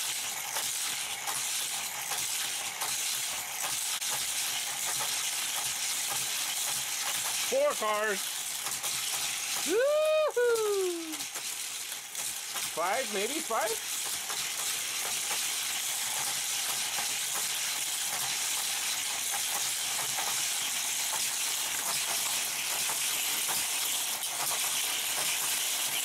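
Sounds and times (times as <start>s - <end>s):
wheels rattling on track joints: 0.0s - 9.7s, 11.2s - 26.0s
toy cars whirring on track: 0.0s - 26.0s.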